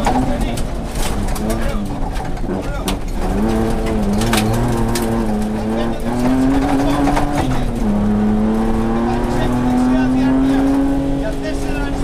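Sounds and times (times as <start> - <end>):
engine running hard: 0.0 - 12.0.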